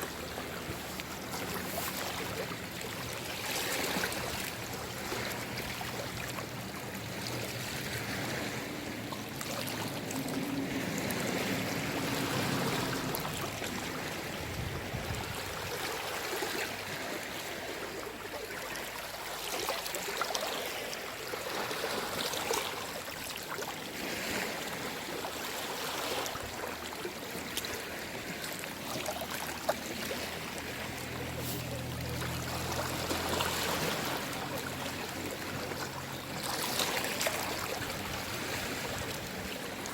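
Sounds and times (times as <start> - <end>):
sea waves lapping at shore: 0.0 - 39.9.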